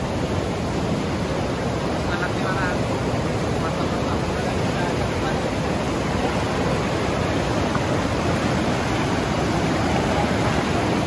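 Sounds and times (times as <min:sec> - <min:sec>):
river rapids rushing over rocks: 0:00.0 - 0:11.0.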